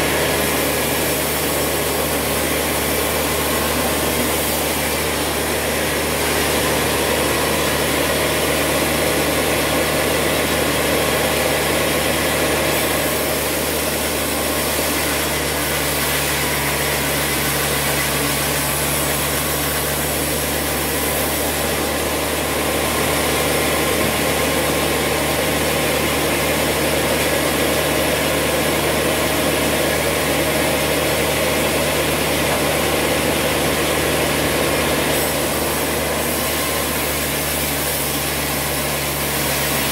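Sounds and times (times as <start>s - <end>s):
saw blade cutting timber: 0.0s - 39.9s.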